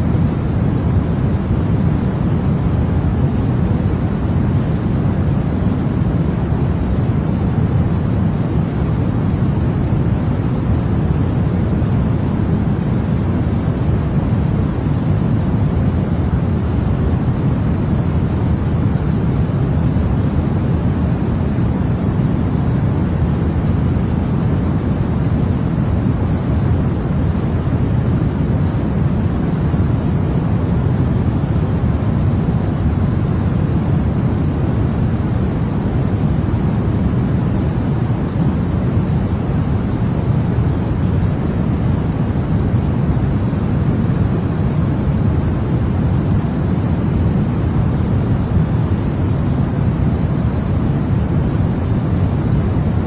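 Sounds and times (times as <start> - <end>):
deep white noise: 0.0 - 53.0.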